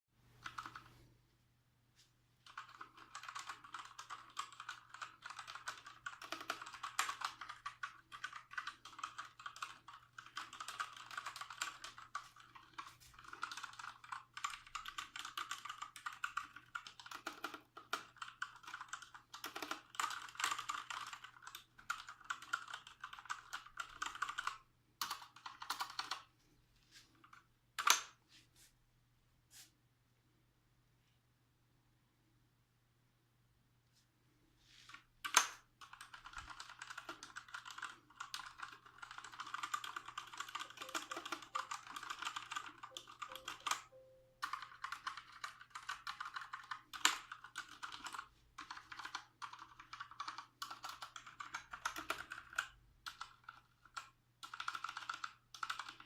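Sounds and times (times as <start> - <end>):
mechanical keyboard typing: 0.4 - 0.9, 2.4 - 26.3, 27.2 - 28.1, 35.2 - 56.0.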